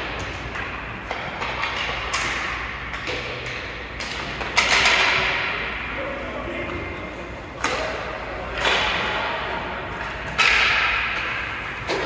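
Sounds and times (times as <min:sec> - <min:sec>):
hockey sticks and puck knocking: 0:00.0 - 0:05.6, 0:07.5 - 0:12.0.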